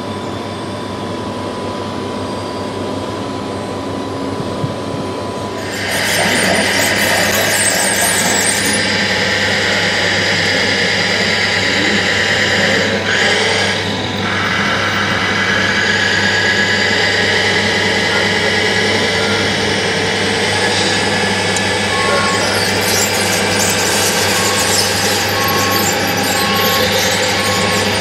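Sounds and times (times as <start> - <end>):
model machines whining and grinding: 5.2 - 28.0
reversing beeper: 5.4 - 28.0.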